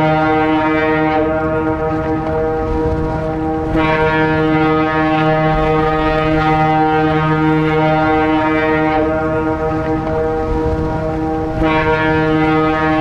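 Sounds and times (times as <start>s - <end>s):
lower horn note: 0.0s - 13.0s
ship's horn long blast: 0.0s - 13.0s.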